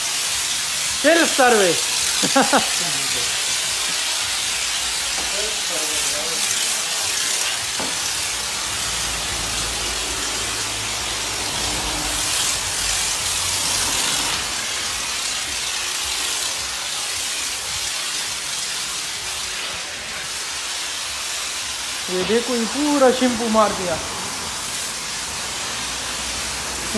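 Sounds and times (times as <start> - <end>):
pressure spray wand hissing: 0.0 - 26.9.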